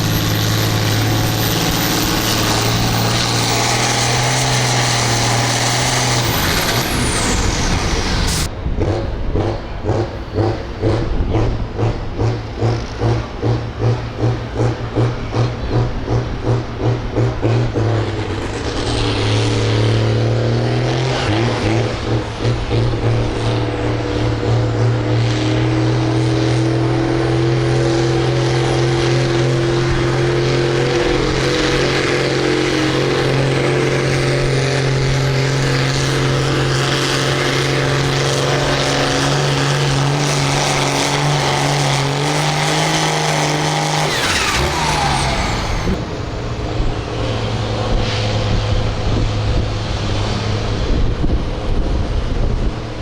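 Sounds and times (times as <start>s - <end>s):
tractor engine running under load: 0.0s - 53.0s.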